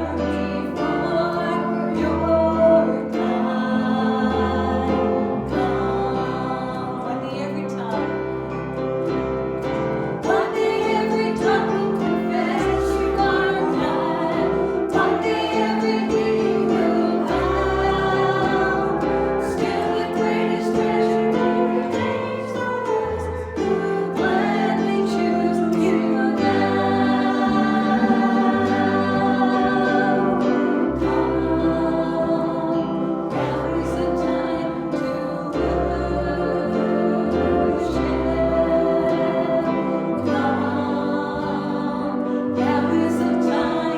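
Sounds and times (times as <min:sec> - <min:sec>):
congregation and choir singing hymn: 0:00.0 - 0:43.9
instrumental accompaniment: 0:00.0 - 0:43.9.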